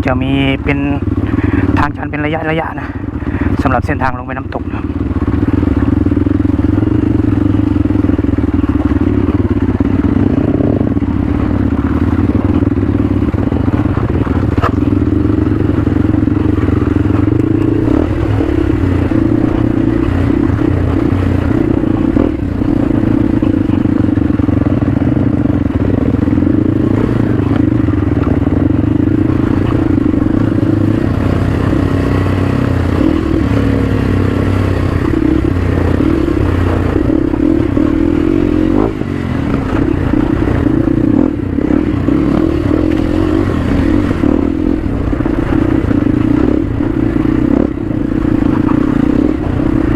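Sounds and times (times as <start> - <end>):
motorcycle engine running: 0.0 - 49.9
motorcycle clatter: 4.2 - 49.9.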